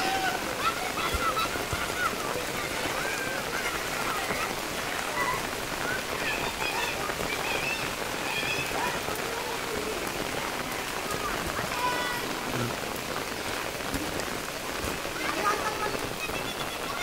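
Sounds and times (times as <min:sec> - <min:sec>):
heavy rain on floodwater: 0:00.0 - 0:17.0.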